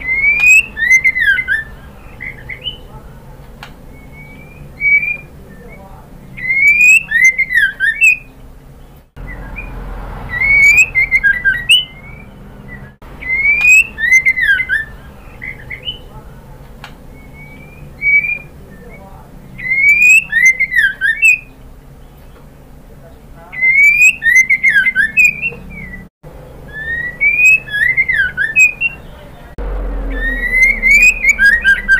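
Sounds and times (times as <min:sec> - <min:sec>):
bird whistling song: 0:00.0 - 0:03.0, 0:03.6 - 0:16.2, 0:16.8 - 0:22.5, 0:23.5 - 0:31.9.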